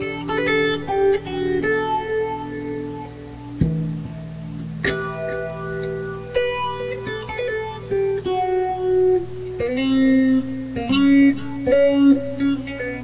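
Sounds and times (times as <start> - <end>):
electric guitar single plucked notes: 0.0 - 13.0.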